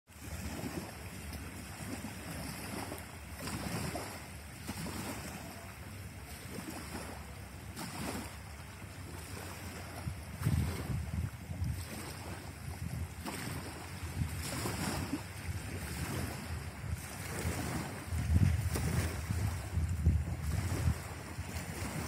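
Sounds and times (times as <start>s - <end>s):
small waves lapping at shore: 0.1s - 22.0s
wind buffeting microphone: 0.2s - 22.0s.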